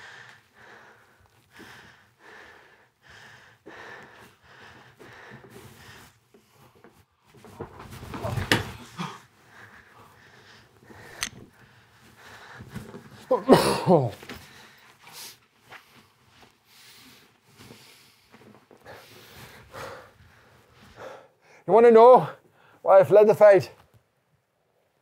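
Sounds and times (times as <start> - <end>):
man breathing heavily: 0.0 - 7.2, 8.8 - 21.7.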